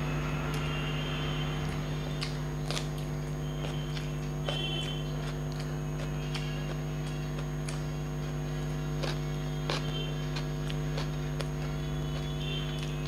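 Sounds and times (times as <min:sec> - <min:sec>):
low electrical hum: 0:00.0 - 0:13.0
person chewing food: 0:00.5 - 0:13.0.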